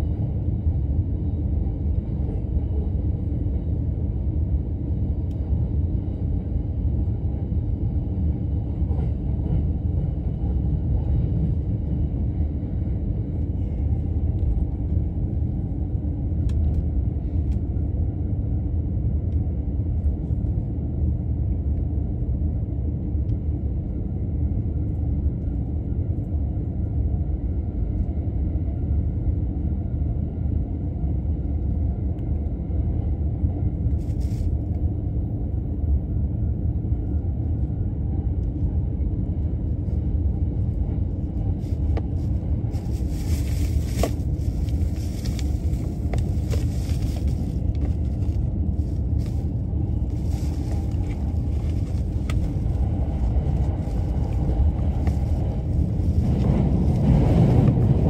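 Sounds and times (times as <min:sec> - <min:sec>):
electric train rumbling on rails: 0:00.0 - 0:58.0.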